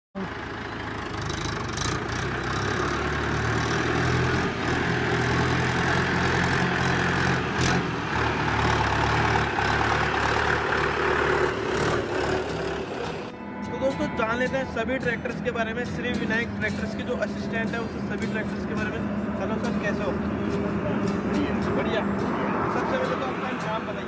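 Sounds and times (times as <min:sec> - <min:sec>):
tractor diesel engine running: 0:00.2 - 0:24.0.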